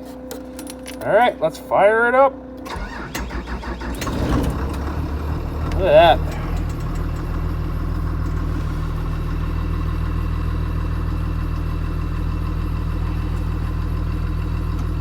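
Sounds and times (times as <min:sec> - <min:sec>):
bus diesel engine idling: 0:02.6 - 0:15.0.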